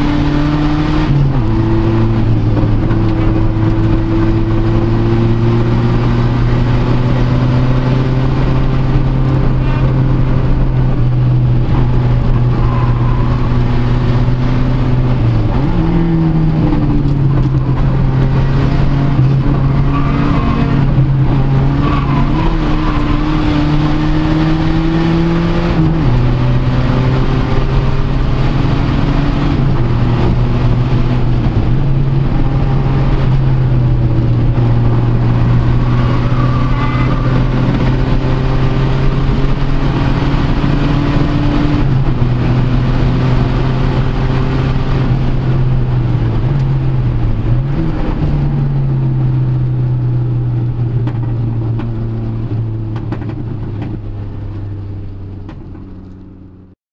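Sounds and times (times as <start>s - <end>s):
car engine pulling hard: 0.0s - 56.7s.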